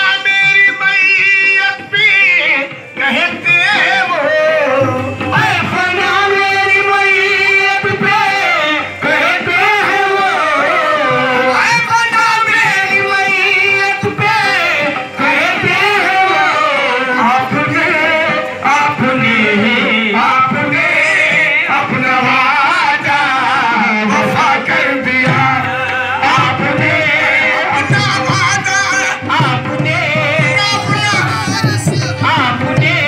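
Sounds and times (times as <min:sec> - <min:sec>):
devotional singing: 0:00.0 - 0:33.0
harmonium: 0:00.0 - 0:33.0.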